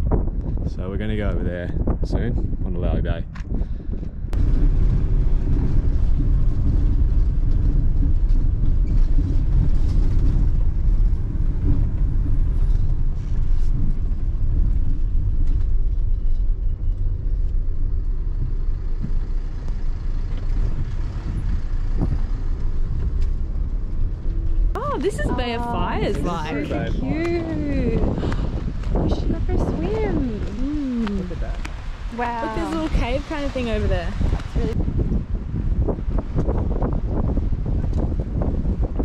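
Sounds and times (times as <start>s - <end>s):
engine and tyre rumble: 0.0s - 39.0s.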